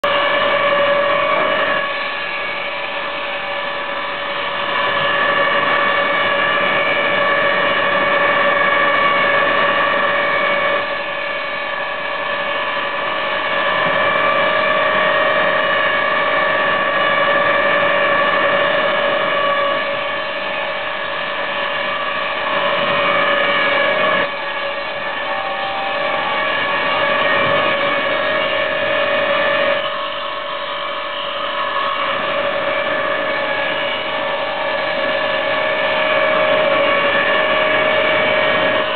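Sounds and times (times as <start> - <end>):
wood planing machine whining: 0.0 - 38.9.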